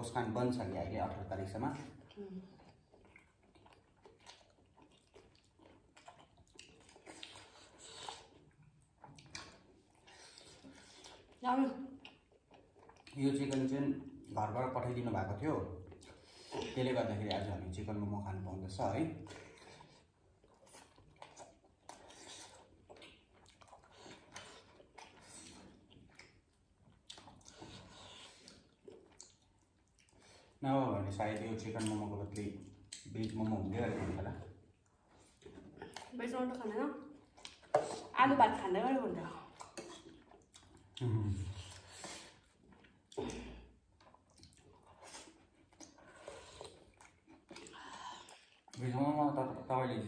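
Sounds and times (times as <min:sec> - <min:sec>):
chewing and wet mouth sounds: 0:00.0 - 0:50.0.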